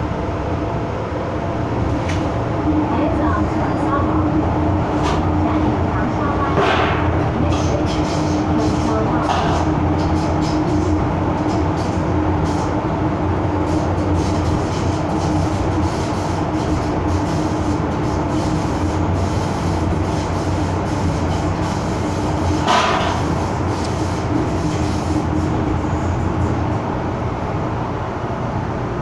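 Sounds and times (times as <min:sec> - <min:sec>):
constant hum: 0:00.0 - 0:29.0
train wheels rumbling: 0:00.0 - 0:29.0.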